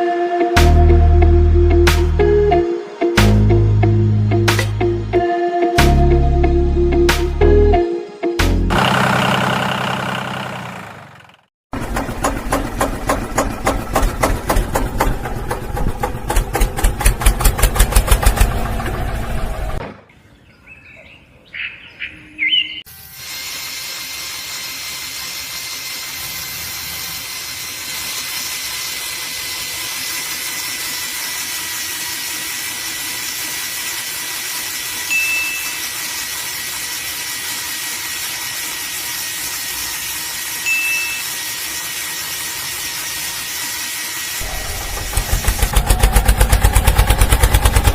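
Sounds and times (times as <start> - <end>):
small motor rhythmic beat: 0.0 - 18.8, 22.9 - 47.9.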